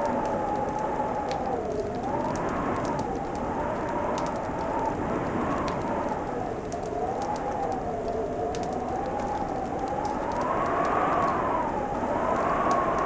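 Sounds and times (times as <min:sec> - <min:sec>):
howling wind: 0:00.0 - 0:13.0
wood fire crackling: 0:00.0 - 0:13.0.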